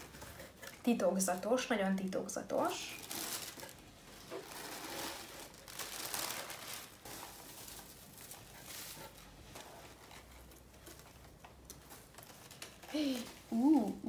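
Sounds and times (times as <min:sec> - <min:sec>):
wrapping paper rustling: 0:00.0 - 0:14.0.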